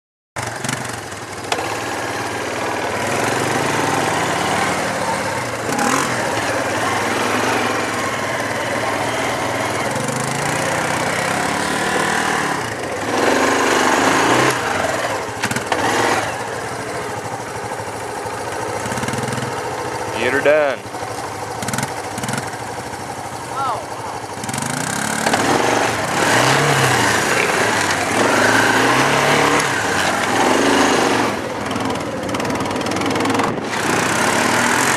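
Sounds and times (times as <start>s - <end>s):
quad engines running: 0.4s - 34.9s.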